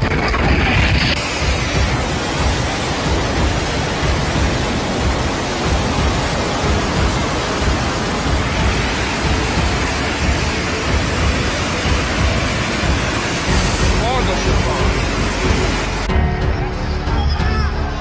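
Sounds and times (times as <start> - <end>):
flood water rushing: 0.0 - 17.0.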